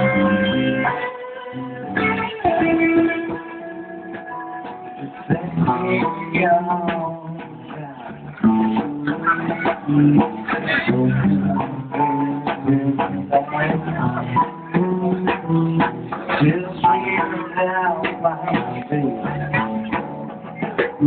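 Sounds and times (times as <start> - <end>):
live band playing guitar music: 0.0 - 21.0.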